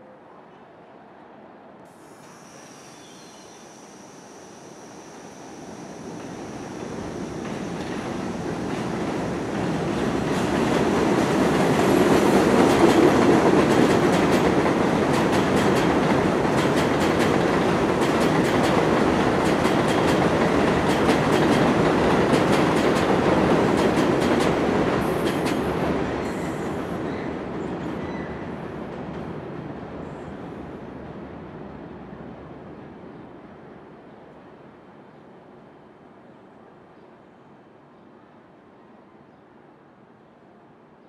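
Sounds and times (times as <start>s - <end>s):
train rumbling on elevated track: 0.0s - 38.9s.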